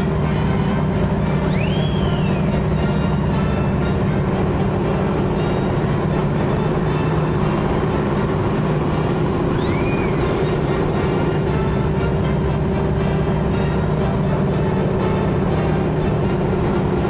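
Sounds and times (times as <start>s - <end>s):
high tone rising and falling: 0.0s - 17.0s
radial aircraft engine running: 0.0s - 17.0s.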